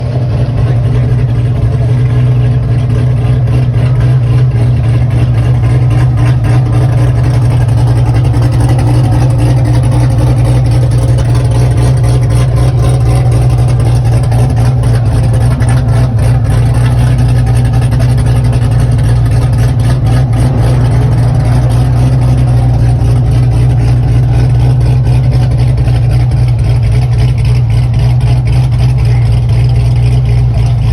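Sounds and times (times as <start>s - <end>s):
car engine rumbling steadily: 0.0s - 30.9s.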